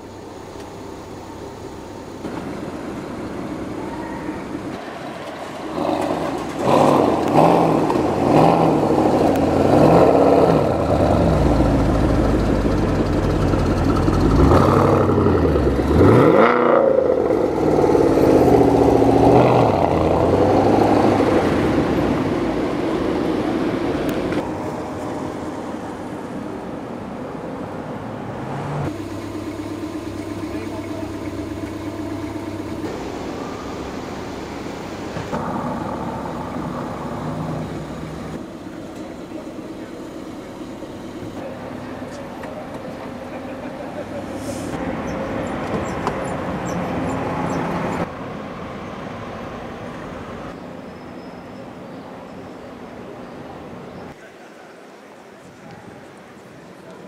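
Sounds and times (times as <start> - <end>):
vehicle engine idling: 0.0 - 27.5, 28.9 - 48.1
street traffic: 0.0 - 57.0.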